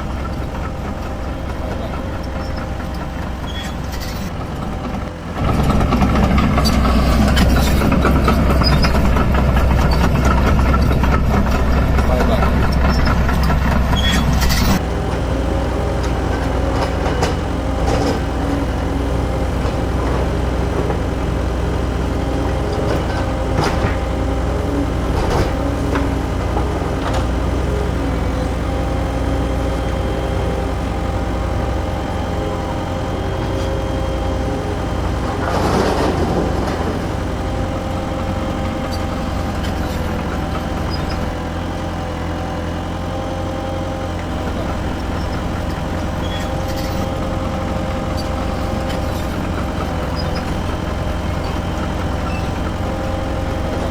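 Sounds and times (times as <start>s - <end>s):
small motors whining: 0.0s - 53.9s.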